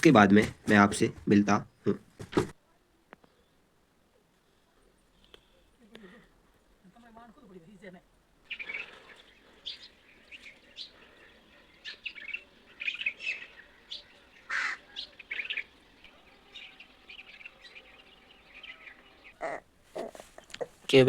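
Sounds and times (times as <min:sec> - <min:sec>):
small birds chirping: 0:03.1 - 0:21.0.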